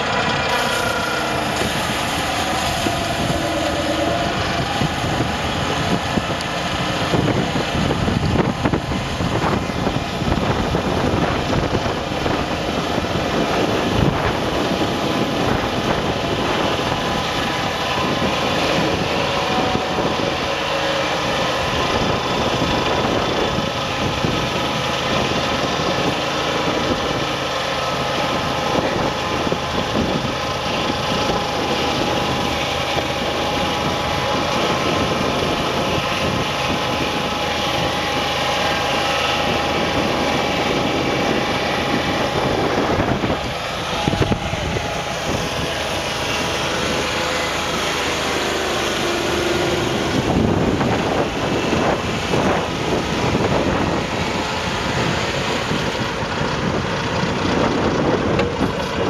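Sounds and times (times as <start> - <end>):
saw cutting log: 0.0 - 59.0
sawmill engine running under load: 0.0 - 59.0.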